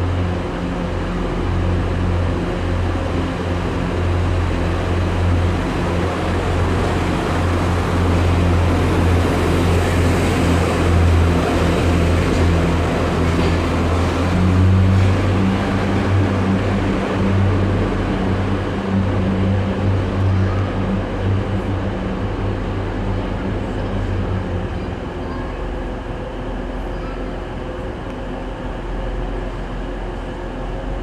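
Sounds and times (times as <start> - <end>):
diesel train engine hum: 0.0 - 31.0
echoing station hubbub: 0.0 - 31.0.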